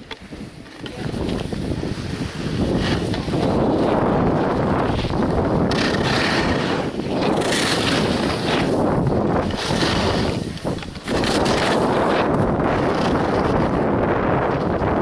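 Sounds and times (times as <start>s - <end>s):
wind buffeting microphone: 0.0s - 15.0s
skis sliding on snow: 0.2s - 14.8s.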